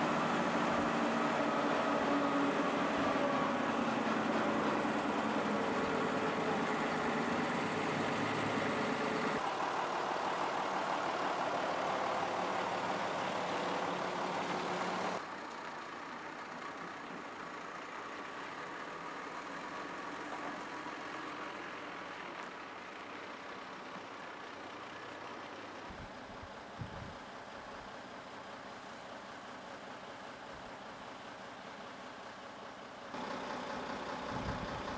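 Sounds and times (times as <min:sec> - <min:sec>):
heavy truck engine running: 0:00.0 - 0:34.9.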